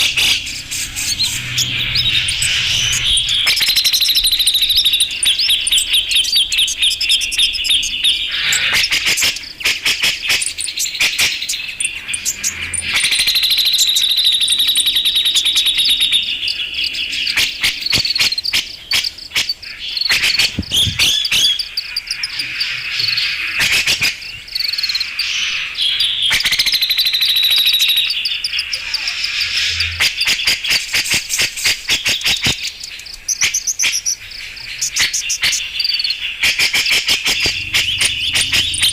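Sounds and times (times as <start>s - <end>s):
bird clicking chatter: 0.0s - 25.5s, 26.3s - 38.9s
bird harsh rattling trills: 0.0s - 38.9s.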